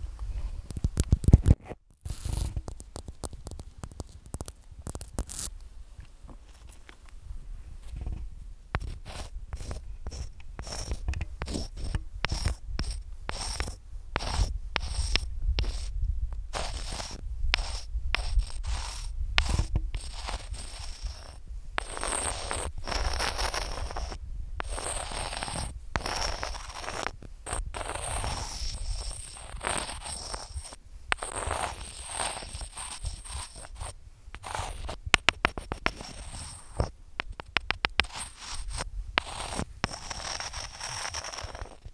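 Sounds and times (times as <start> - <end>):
fingernails scratching: 2.1 - 5.5, 8.8 - 41.9.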